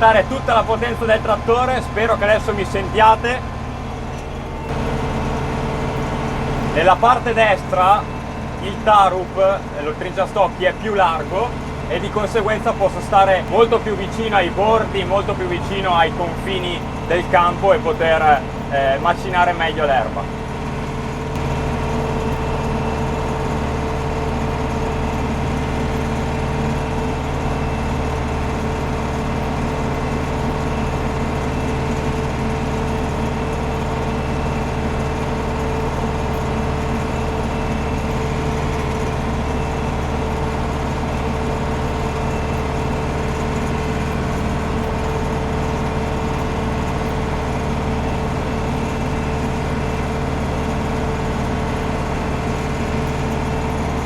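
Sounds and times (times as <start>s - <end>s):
flail mower cutting grass: 0.0s - 54.0s
tractor engine running: 0.0s - 54.0s.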